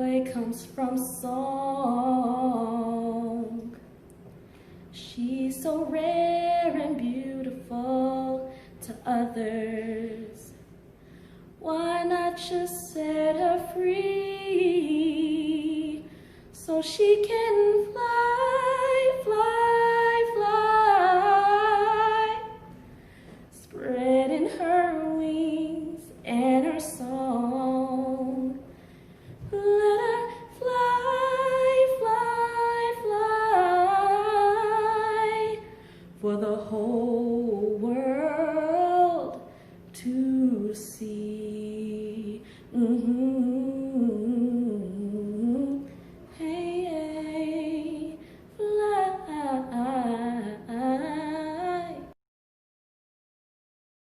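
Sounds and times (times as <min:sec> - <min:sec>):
woman singing a cappella: 0:00.0 - 0:04.0, 0:04.9 - 0:10.7, 0:11.6 - 0:52.2.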